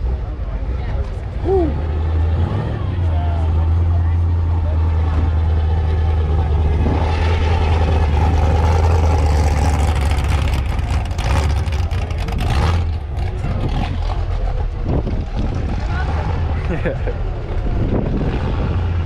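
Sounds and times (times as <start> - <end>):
car engine running: 0.2 - 19.0.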